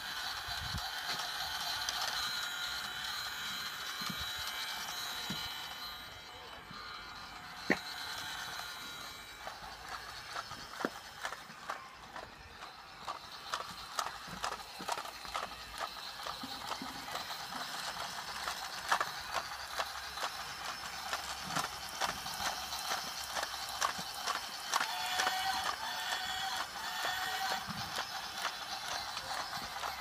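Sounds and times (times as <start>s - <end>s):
small motor whirring: 0.0s - 30.0s
wheels and gears clicking: 0.0s - 30.0s.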